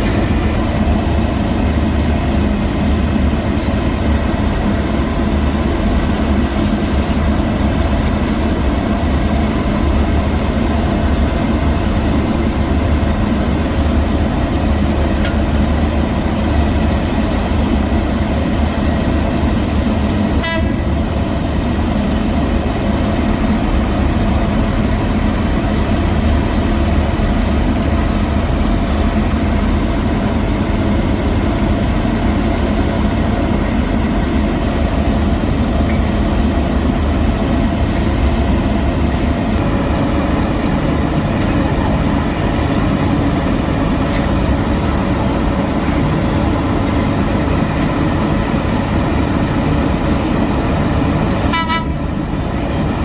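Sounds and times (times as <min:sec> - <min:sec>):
diesel machinery engine drone: 0:00.0 - 0:53.0.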